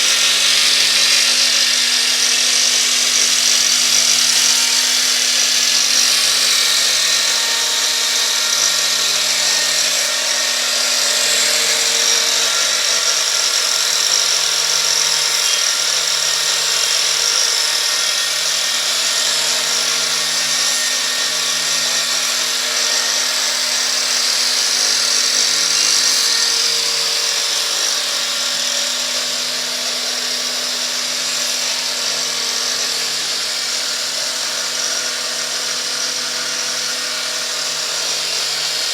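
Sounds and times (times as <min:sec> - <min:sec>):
angle grinder cutting wood: 0:00.0 - 0:38.9.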